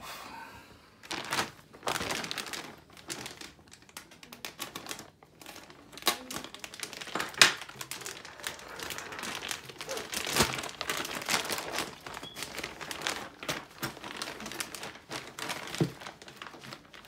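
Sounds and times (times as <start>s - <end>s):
plastic bag crinkling: 1.0s - 17.0s.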